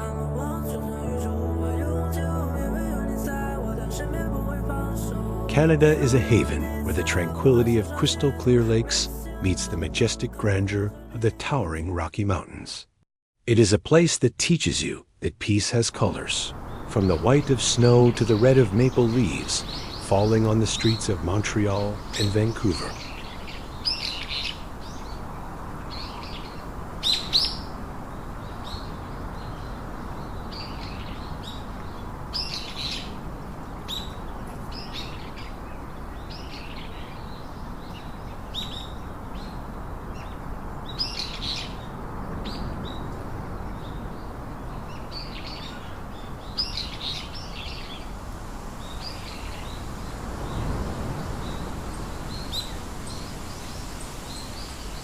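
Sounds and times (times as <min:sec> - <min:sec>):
songbirds chirping: 0:00.0 - 0:12.8, 0:14.6 - 0:55.0
low outdoor ambience: 0:00.0 - 0:55.0.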